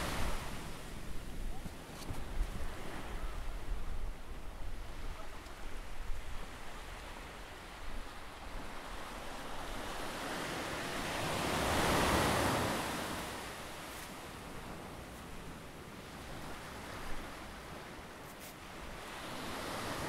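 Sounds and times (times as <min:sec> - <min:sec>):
ocean surf washing: 0:00.0 - 0:20.0.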